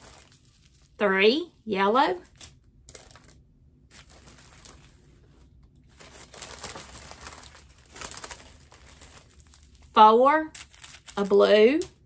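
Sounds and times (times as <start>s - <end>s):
plastic bags crinkling: 0.0s - 1.0s, 2.2s - 12.0s.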